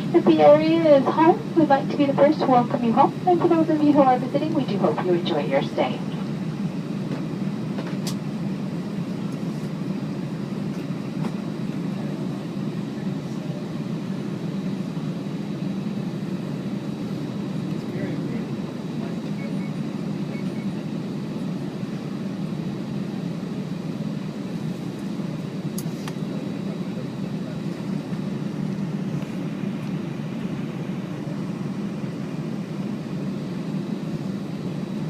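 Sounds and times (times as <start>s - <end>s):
airliner cabin low rumble: 0.0s - 35.0s.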